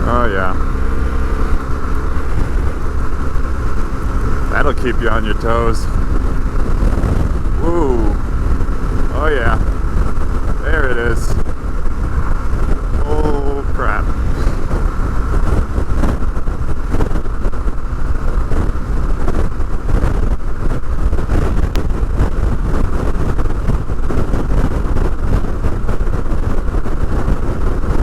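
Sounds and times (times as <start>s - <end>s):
motorcycle engine: 0.0s - 28.0s
road noise: 0.0s - 28.0s
wind buffeting microphone: 0.0s - 28.0s.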